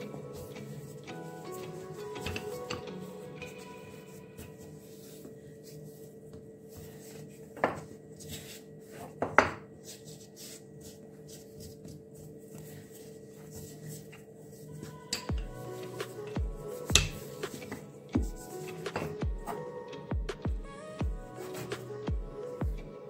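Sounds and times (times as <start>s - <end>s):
handling dough: 0.0s - 19.6s.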